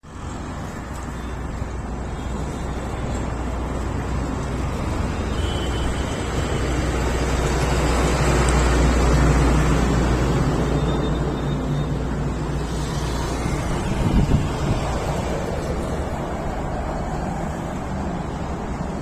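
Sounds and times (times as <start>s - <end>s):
tractor diesel engine rumbling: 0.0s - 19.0s.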